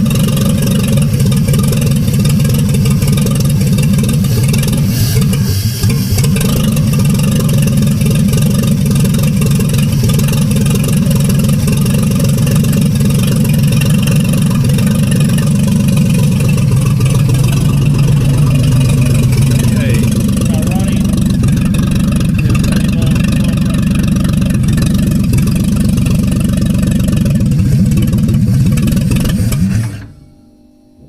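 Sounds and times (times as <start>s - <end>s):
truck engine running: 0.0s - 30.2s.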